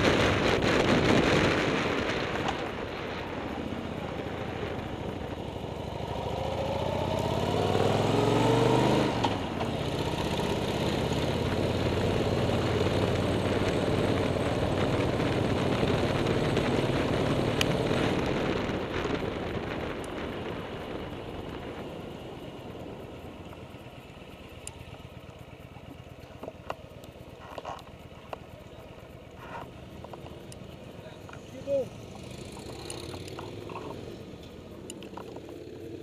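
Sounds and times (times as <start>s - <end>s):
vehicle engine pulling uphill: 0.0s - 36.0s.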